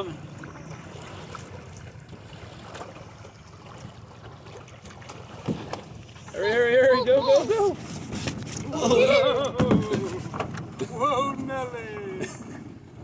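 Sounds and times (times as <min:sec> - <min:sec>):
faint water splashes: 0:00.0 - 0:13.0
waves lapping against metal boat: 0:00.0 - 0:13.0.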